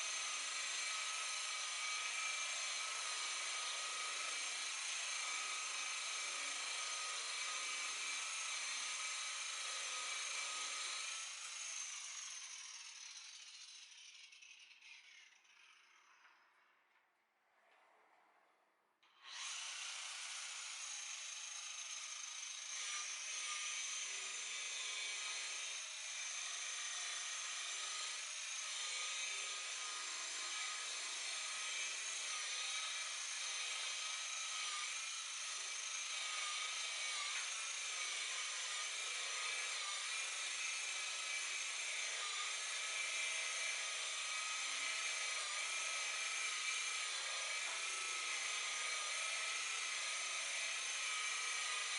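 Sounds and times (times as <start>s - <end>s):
electric polisher whining: 0.0s - 11.4s, 19.3s - 21.3s, 22.6s - 51.9s.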